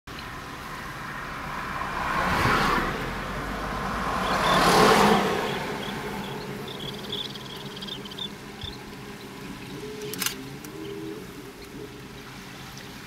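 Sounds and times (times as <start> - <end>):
surf waves washing on beach: 0.2 - 13.0.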